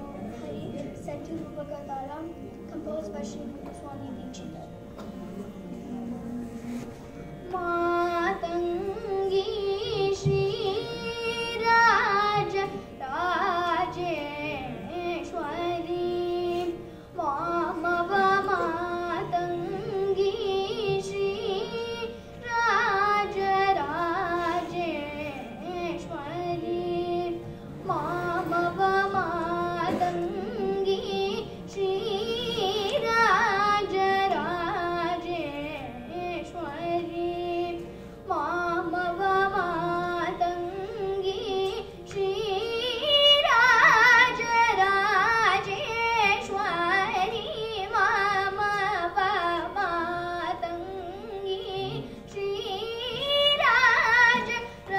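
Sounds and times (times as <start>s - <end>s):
girl singing: 0.0s - 4.6s, 7.4s - 54.9s.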